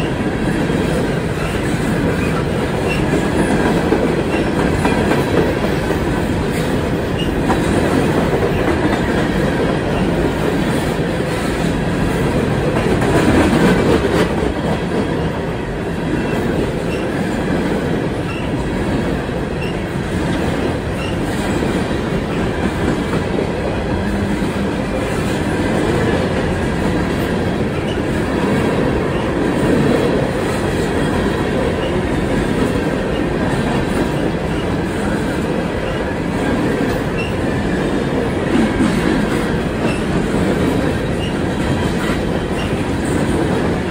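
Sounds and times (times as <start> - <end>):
clickety-clack over rail joints: 0.0 - 43.9
train wheels rumbling on rails: 0.0 - 43.9.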